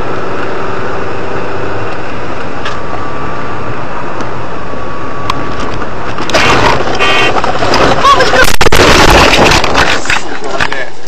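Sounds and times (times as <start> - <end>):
car driving road noise: 0.0 - 11.0.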